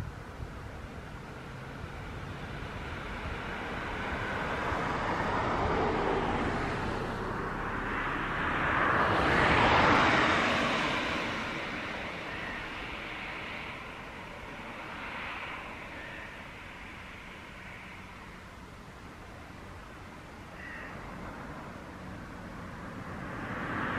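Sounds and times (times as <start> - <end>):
vehicle passing rushing noise: 1.4 - 23.9.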